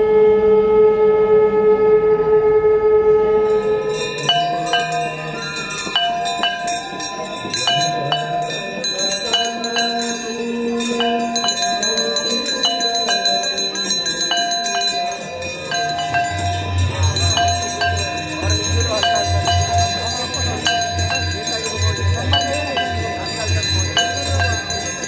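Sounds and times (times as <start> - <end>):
brass hand bells ringing: 3.4 - 25.0.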